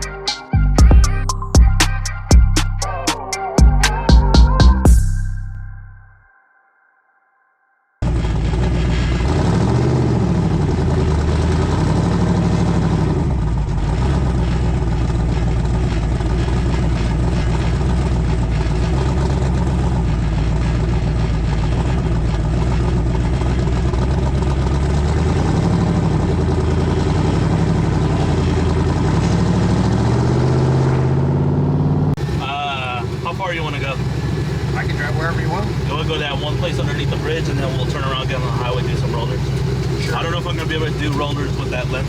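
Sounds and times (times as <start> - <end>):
vehicle engine revving: 8.0 - 42.0.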